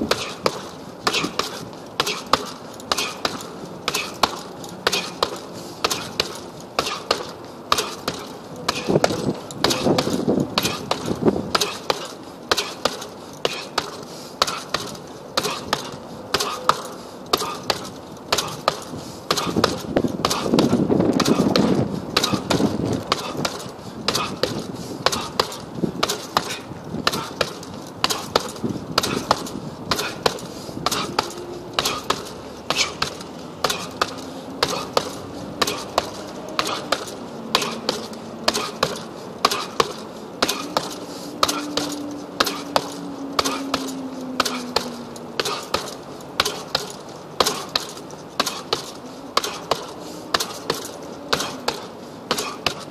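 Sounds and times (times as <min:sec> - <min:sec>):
punches thudding on heavy bag: 0:00.0 - 0:52.9.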